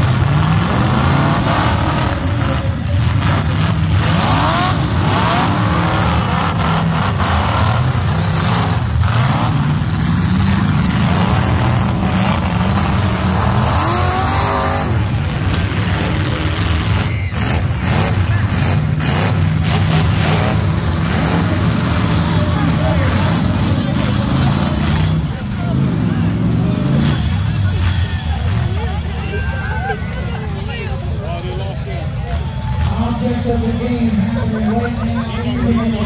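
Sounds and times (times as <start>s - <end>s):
car engines revving loudly: 0.0s - 36.0s.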